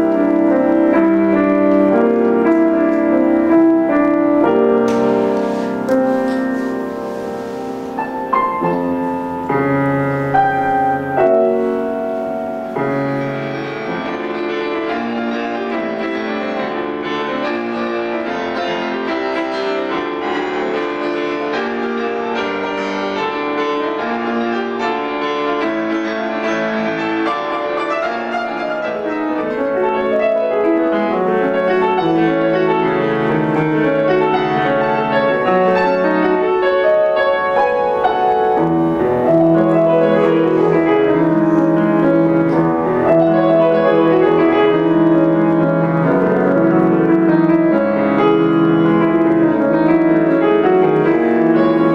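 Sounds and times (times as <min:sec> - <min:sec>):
solo grand piano: 0:00.0 - 0:51.9.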